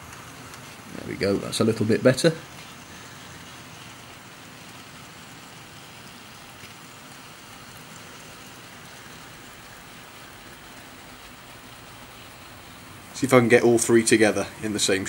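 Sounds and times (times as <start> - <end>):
model train wheels on rails: 0.0 - 15.0.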